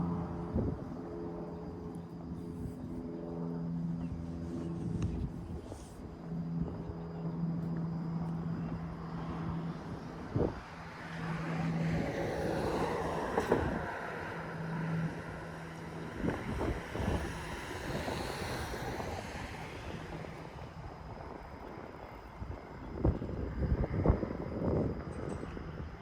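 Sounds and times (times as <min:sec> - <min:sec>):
wind on microphone: 0:00.0 - 0:01.7, 0:02.3 - 0:07.3, 0:08.4 - 0:26.0.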